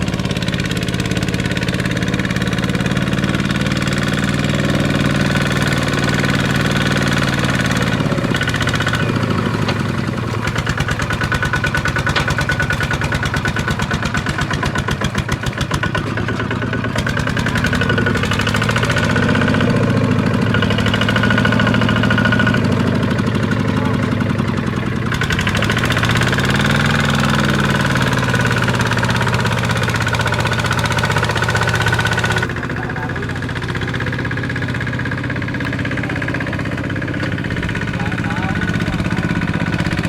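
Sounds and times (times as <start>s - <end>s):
diesel engine knocking: 0.0s - 40.0s.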